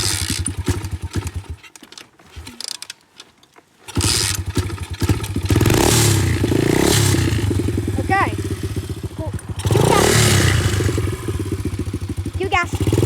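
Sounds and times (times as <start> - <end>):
dirt bike engine starting: 0.0 - 3.0, 3.8 - 13.0.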